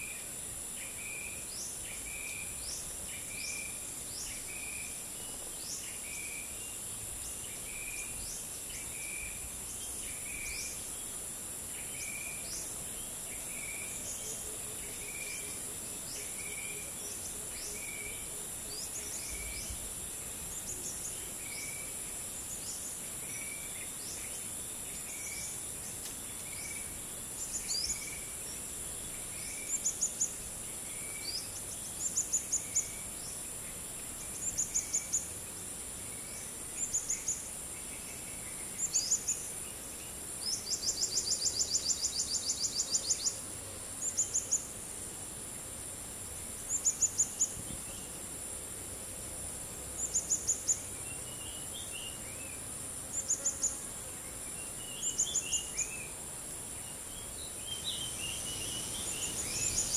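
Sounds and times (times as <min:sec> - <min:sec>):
insect drone: 0:00.0 - 0:59.9.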